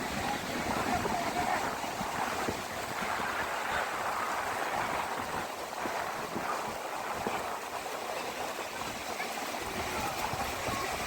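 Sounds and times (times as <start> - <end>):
water rushing: 0.0 - 11.0
wind buffeting microphone: 0.0 - 11.0.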